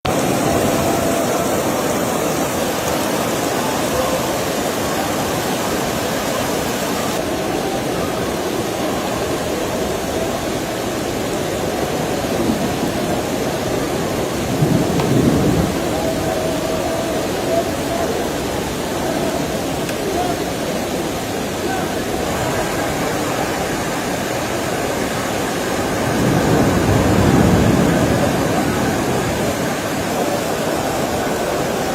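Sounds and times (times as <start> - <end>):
heavy rain downpour: 0.0 - 31.9.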